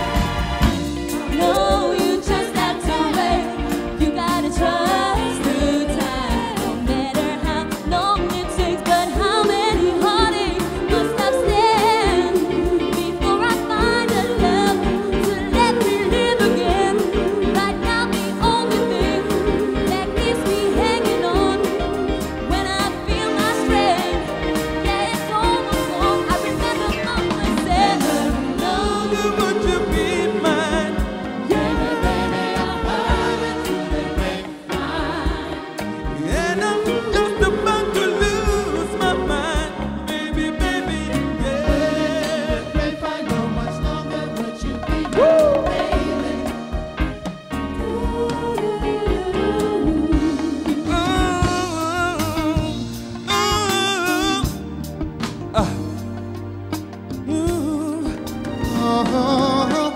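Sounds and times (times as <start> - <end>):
voices singing together: 0.0 - 47.0, 47.6 - 52.9
soul band with drums: 0.0 - 59.9.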